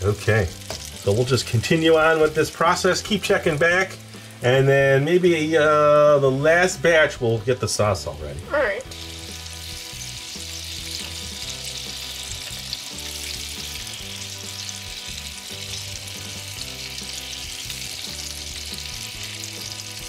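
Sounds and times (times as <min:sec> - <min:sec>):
nuggets sizzling in deep oil: 0:00.0 - 0:07.2, 0:07.8 - 0:20.0.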